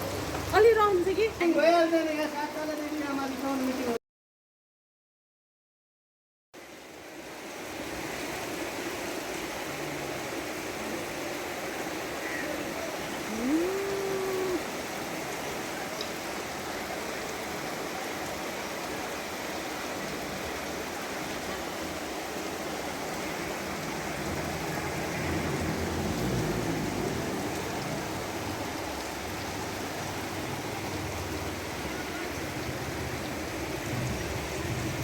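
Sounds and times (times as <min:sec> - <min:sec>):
floodwater rushing: 0:00.0 - 0:04.0, 0:06.6 - 0:35.0.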